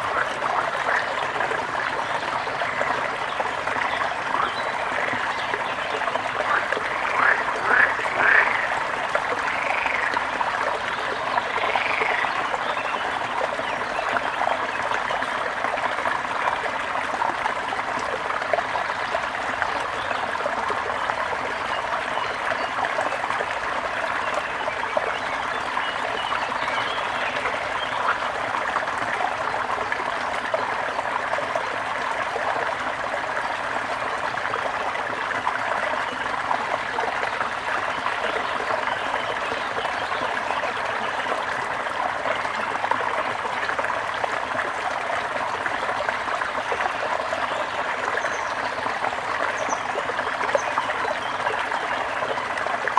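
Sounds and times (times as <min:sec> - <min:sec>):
small stream trickling and splashing: 0:00.0 - 0:52.9.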